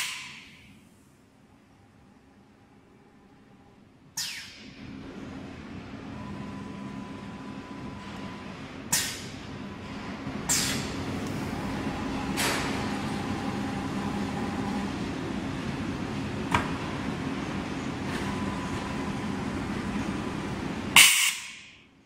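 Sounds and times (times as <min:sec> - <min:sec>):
machine hum with faint whine: 0:00.0 - 0:22.0.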